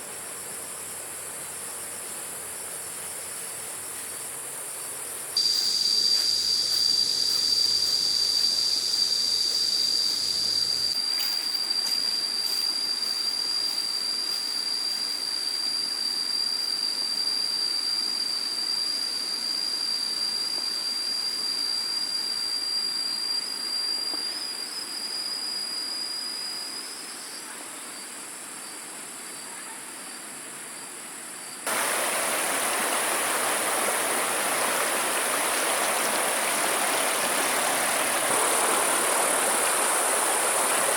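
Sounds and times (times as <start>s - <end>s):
high-pitched insect drone: 0.0s - 29.5s, 31.7s - 40.9s.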